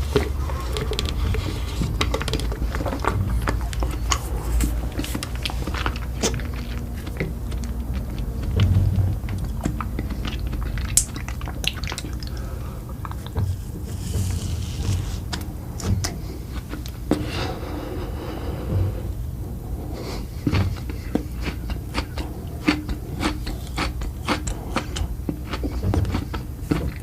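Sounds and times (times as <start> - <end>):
low steady rumble: 0.0 - 27.0
person chewing food: 0.0 - 27.0.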